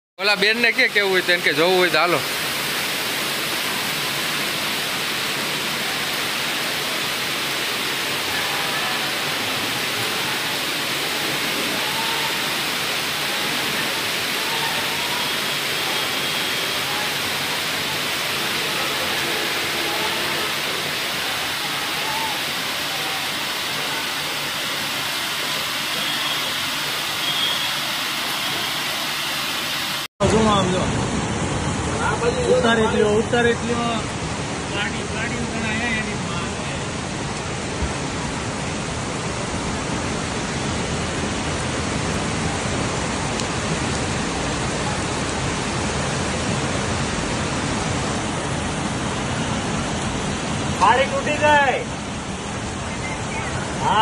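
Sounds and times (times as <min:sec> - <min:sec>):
heavy rain pouring: 0:00.2 - 0:54.0.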